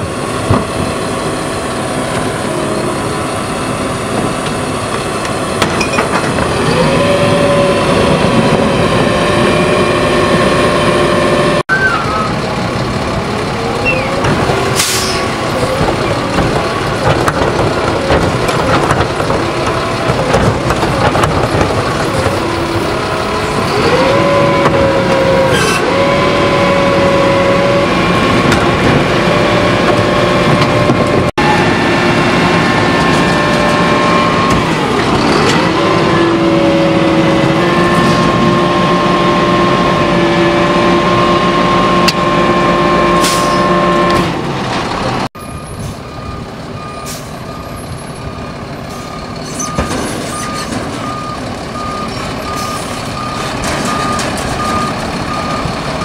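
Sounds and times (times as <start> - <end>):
garbage truck engine running: 0.0 - 56.0
hydraulics whining: 0.0 - 56.0.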